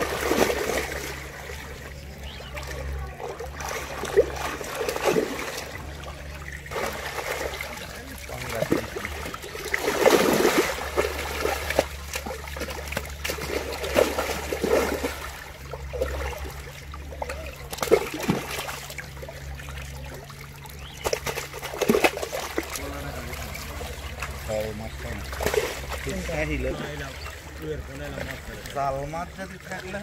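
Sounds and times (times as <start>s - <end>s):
fish thrashing in water: 0.0s - 30.0s
low steady hum: 0.0s - 30.0s
water splashing and dripping: 0.0s - 30.0s.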